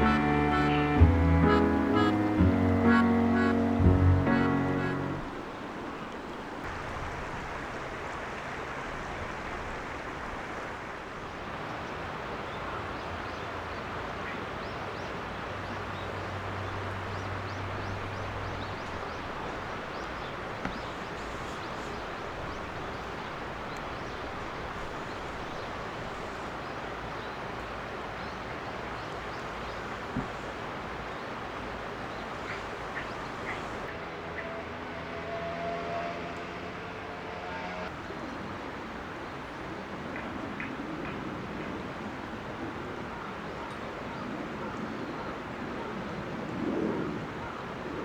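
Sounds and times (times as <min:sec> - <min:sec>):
flowing river: 0:00.0 - 0:44.1.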